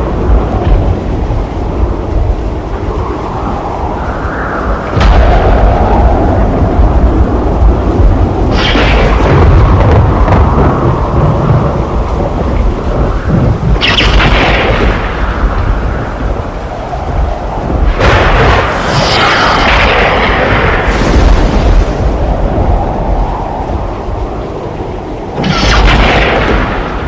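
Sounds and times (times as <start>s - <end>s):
low rumbling thunder: 0.0s - 27.0s
steady rain: 0.0s - 27.0s
sharp thunderclaps: 4.6s - 27.0s.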